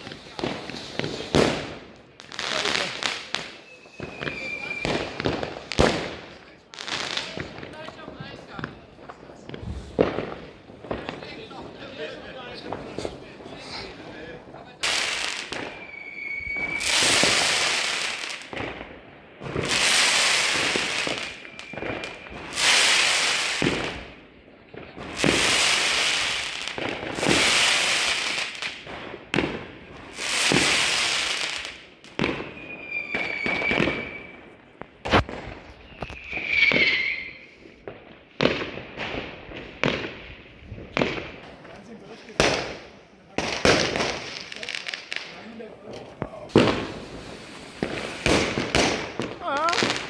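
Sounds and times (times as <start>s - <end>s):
fireworks whistling: 0.0s - 24.2s, 24.9s - 41.4s, 42.4s - 50.0s
fireworks bangs: 0.0s - 50.0s
fireworks crackling: 0.0s - 50.0s.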